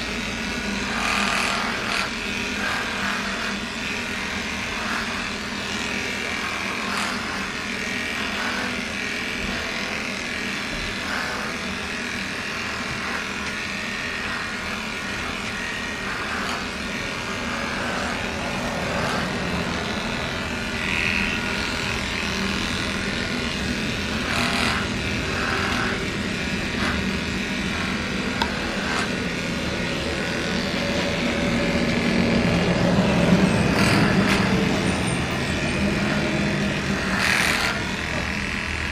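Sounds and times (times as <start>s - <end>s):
electric clippers running: 0.0s - 38.9s.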